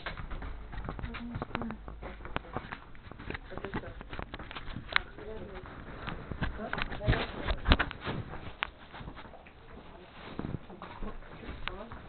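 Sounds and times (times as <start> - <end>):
clothing rubbing on microphone: 0.0 - 12.0.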